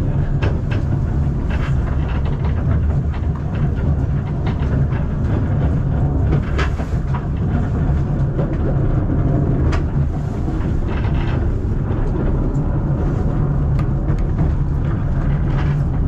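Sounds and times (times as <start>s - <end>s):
train carriage rumbling on track: 0.0s - 16.0s
sharp clicks and knocks: 0.1s - 16.0s.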